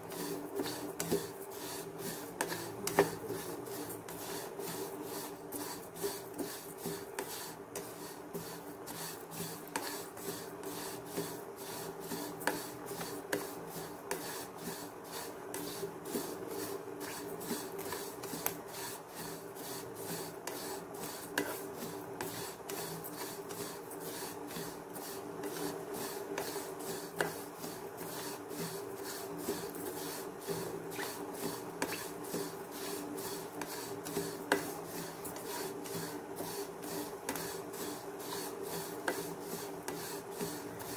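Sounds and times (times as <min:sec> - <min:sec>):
spatula scraping seeds in a pan: 0:00.1 - 0:40.9.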